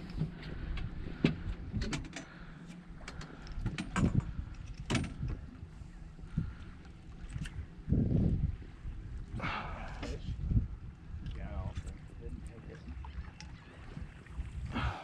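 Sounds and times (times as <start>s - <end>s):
low steady rumble: 0.0s - 13.7s.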